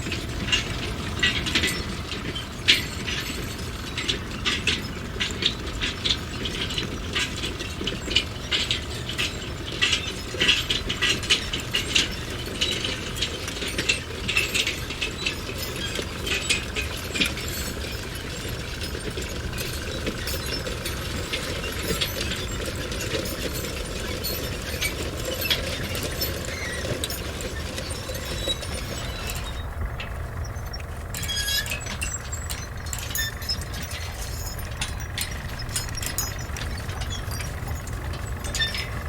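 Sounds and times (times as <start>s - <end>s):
metal clanking on metal: 0.0s - 39.0s.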